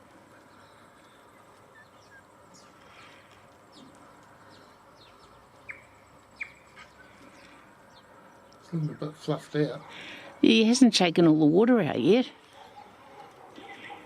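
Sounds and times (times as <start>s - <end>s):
small birds chirping: 0.0s - 10.6s, 12.0s - 14.0s
faint outdoor background: 0.0s - 14.0s.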